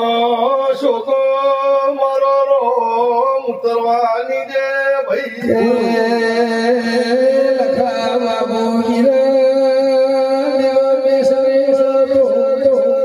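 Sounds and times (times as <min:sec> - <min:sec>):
man singing long held notes: 0:00.0 - 0:13.0.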